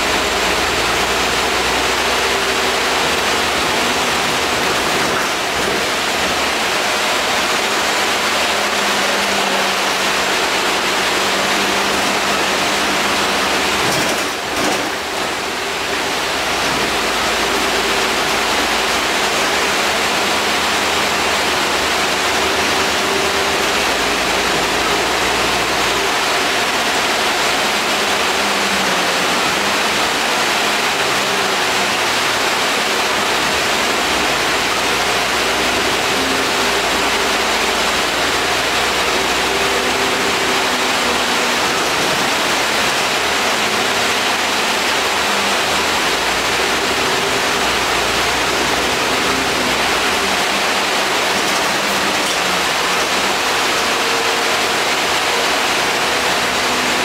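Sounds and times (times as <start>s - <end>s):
road noise inside bus: 0.0s - 57.0s.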